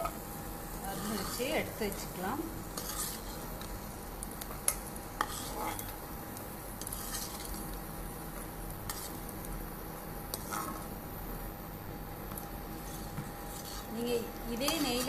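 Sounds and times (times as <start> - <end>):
ghee sizzling: 0.0 - 15.0.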